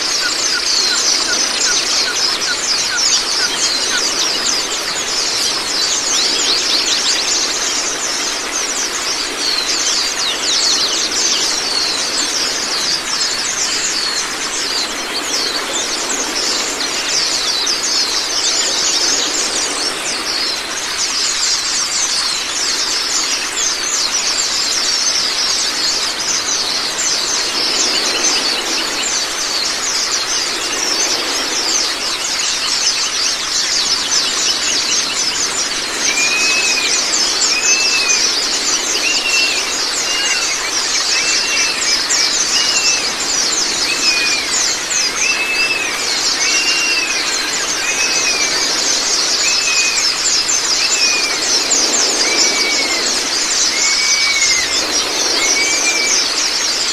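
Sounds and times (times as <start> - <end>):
birds twittering: 0.0 - 56.9
running water: 0.0 - 56.9.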